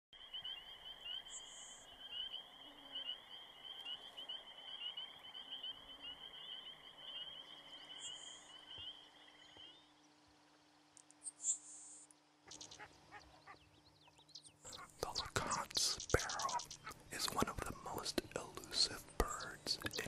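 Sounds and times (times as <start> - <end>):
rapid chirping trills: 0.2 - 10.0, 11.2 - 20.0.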